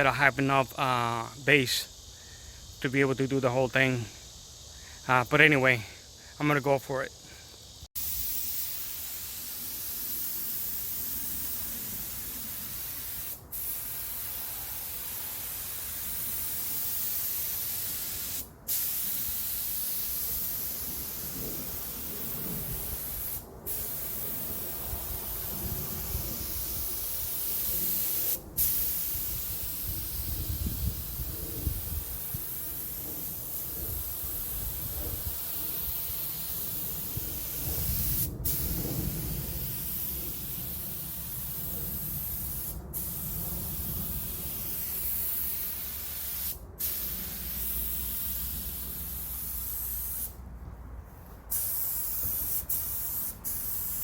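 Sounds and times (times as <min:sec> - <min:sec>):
paint spray gun hissing: 0:07.2 - 0:50.4, 0:51.5 - 0:54.0.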